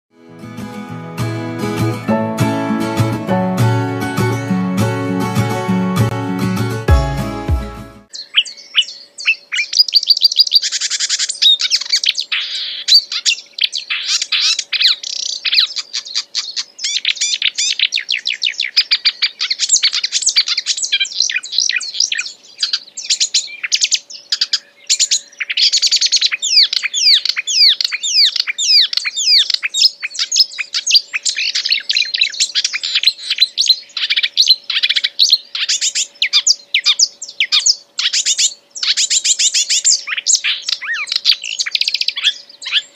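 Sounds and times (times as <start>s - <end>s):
songbird singing: 8.1s - 42.9s.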